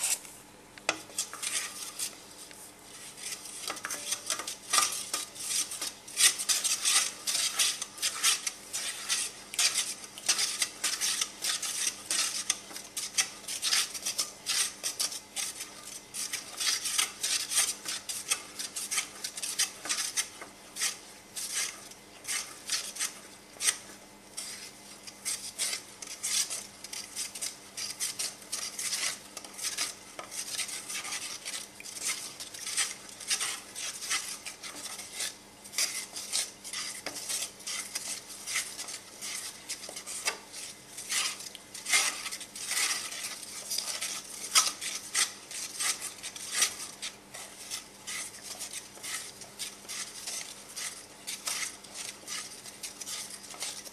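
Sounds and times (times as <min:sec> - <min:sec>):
wooden spoon scraping steel pan: 0:00.0 - 0:00.3, 0:00.9 - 0:53.9.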